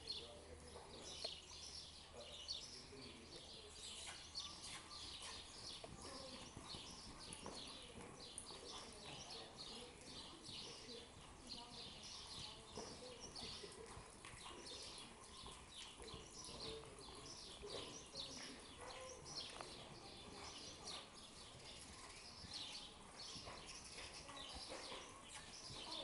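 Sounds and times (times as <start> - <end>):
small birds chirping: 0.0 - 26.0
horse hoofbeats on dirt: 3.8 - 26.0.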